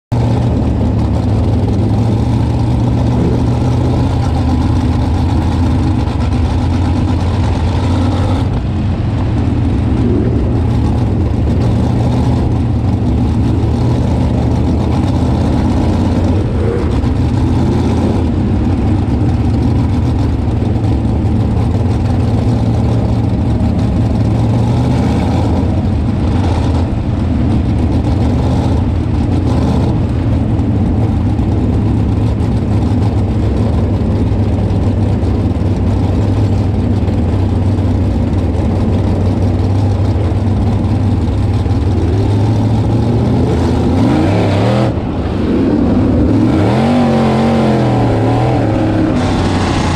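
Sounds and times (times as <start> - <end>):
race car engine at low rpm: 0.0 - 49.9
surrounding cars' engines: 0.0 - 49.9.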